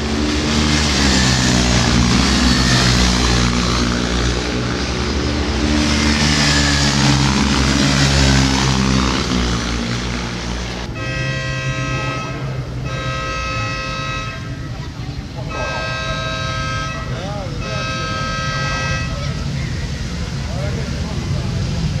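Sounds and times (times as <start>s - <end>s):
racing motorcycles passing: 0.0s - 22.0s.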